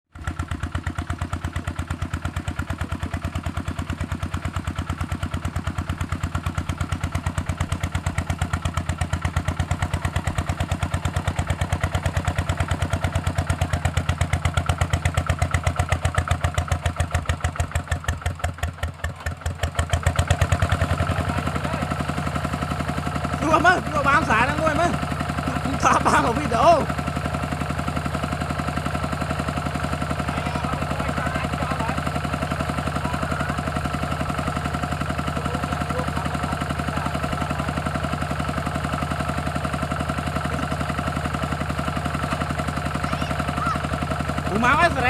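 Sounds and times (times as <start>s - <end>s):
diesel engine chugging: 0.1s - 45.0s.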